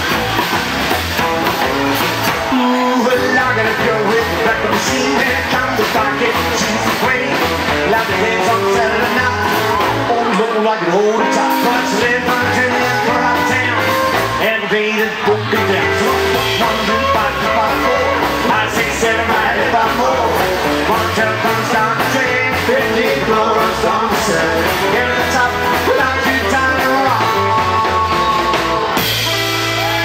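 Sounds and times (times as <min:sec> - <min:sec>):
live rock and roll band: 0:00.0 - 0:30.0.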